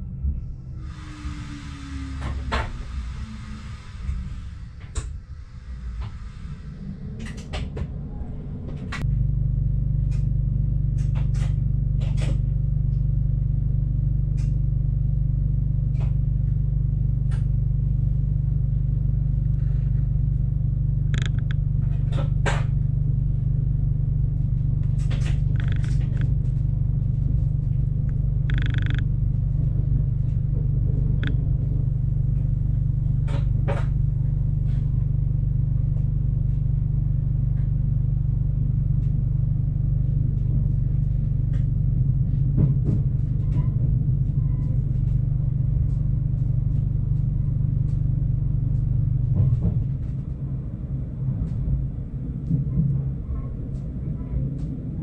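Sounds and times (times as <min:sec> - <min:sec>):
train engine drone: 0:00.0 - 0:55.0.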